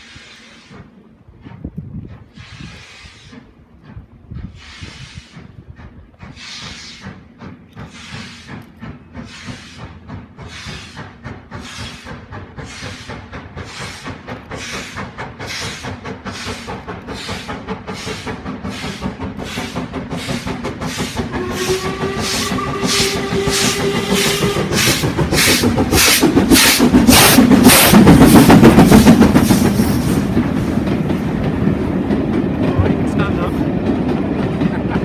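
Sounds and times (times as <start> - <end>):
steam locomotive chuffing: 0.0 - 35.0.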